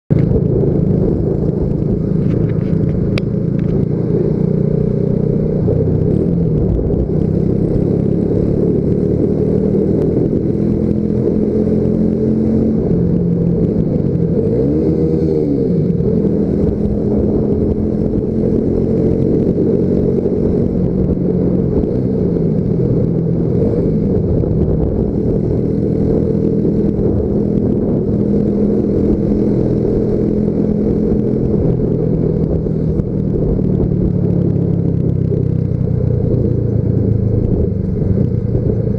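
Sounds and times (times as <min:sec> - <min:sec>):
motorcycle engine echoing in tunnel: 0:00.1 - 0:38.9.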